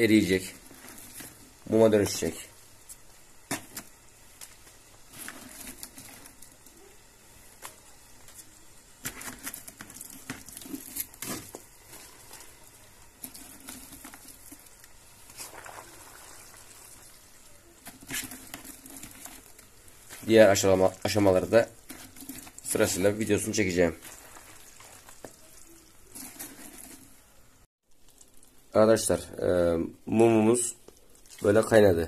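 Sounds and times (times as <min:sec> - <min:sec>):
beeswax honeycomb crackling: 0:00.0 - 0:32.0.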